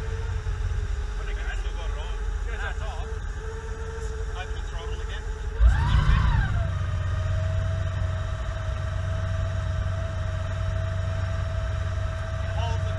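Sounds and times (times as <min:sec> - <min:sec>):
boat engine rumbling: 0:00.0 - 0:12.9
engine revving: 0:00.0 - 0:12.9
high engine whine: 0:00.0 - 0:12.9.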